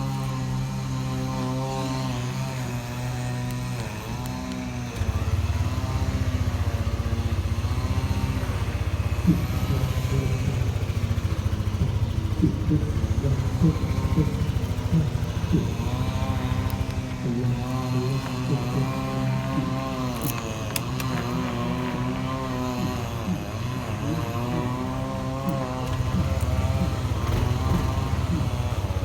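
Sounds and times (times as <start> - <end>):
scooter engine idling: 0.0 - 29.0.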